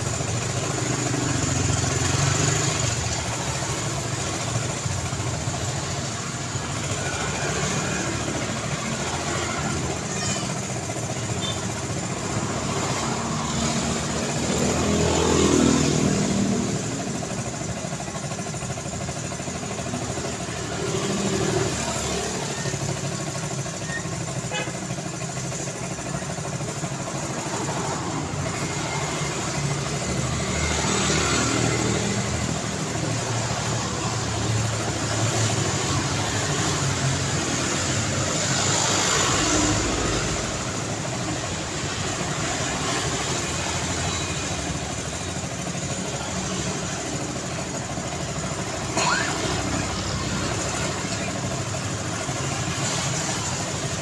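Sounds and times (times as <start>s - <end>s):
passing vehicles engine and tyre noise: 0.0s - 54.0s.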